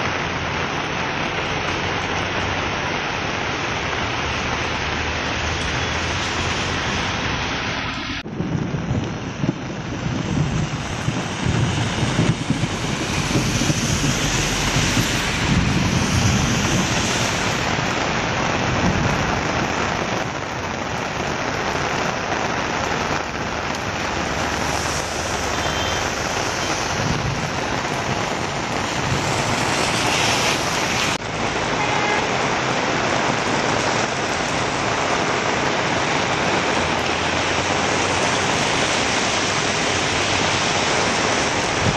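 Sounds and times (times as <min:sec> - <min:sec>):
heavy rain pouring: 0:00.0 - 0:41.9
vehicles on wet road: 0:00.0 - 0:41.9.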